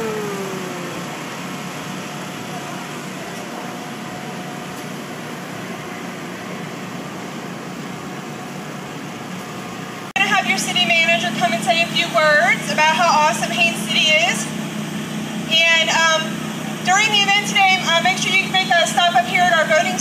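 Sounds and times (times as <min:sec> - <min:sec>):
outdoor event background hum and hiss: 0:00.0 - 0:20.0.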